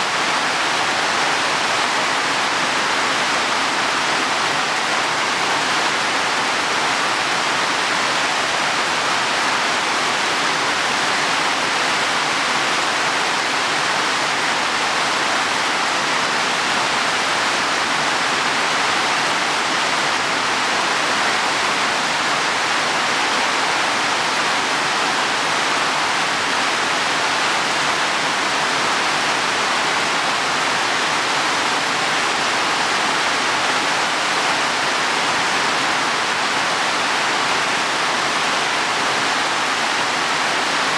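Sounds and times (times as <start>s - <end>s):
heavy rain on leaves and soil: 0.0s - 40.9s.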